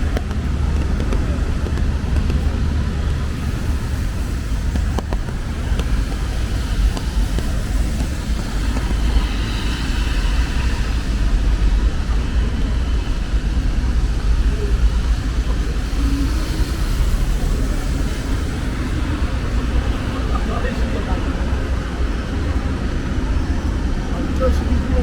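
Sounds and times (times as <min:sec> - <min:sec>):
rain hissing: 0:00.0 - 0:23.2
city street traffic: 0:00.0 - 0:25.0.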